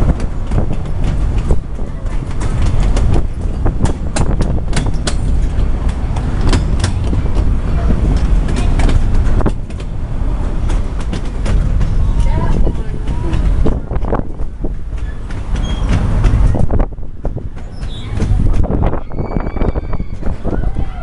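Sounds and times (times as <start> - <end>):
train rumble: 0.0 - 21.0
wheels clicking and clacking: 0.0 - 21.0.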